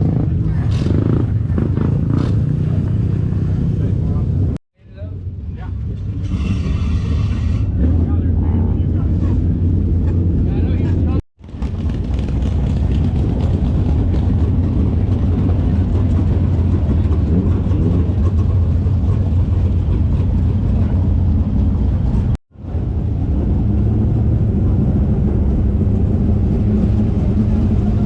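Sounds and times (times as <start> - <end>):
sprint car engines running: 0.0 - 28.0.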